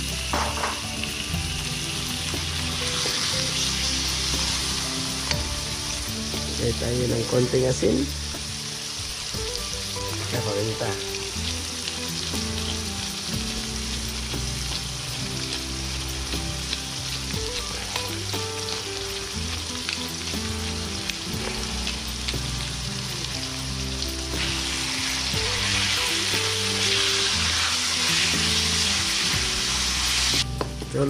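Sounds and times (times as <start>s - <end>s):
meat and onions frying in a wok: 0.0s - 31.0s.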